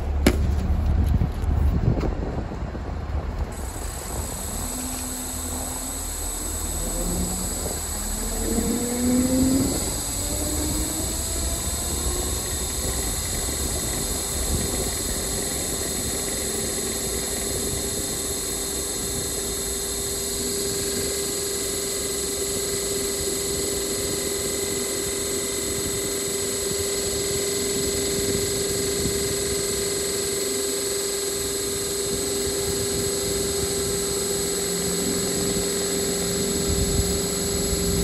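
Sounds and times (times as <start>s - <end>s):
fan airflow rushing: 0.0s - 38.0s
heat pump whine: 0.0s - 38.0s.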